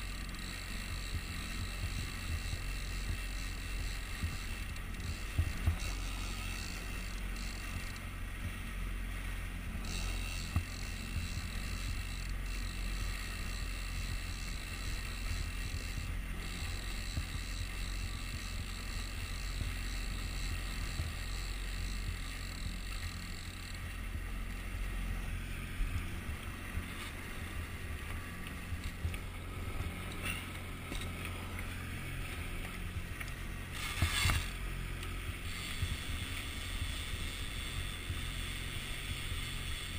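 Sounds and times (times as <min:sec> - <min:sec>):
outboard motor droning: 0:00.0 - 0:39.9
water rushing along hull: 0:00.0 - 0:39.9.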